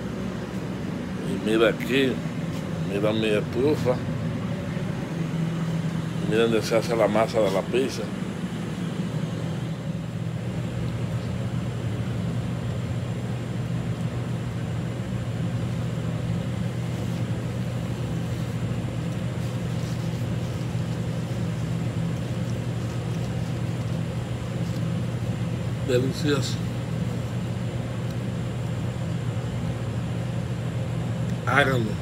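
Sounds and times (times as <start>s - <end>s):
kitchen machinery hum: 0.0s - 32.0s.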